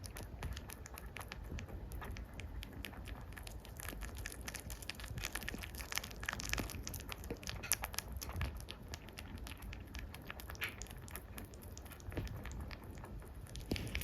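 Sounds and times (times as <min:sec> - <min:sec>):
rabbit chewing food: 0:00.0 - 0:14.0.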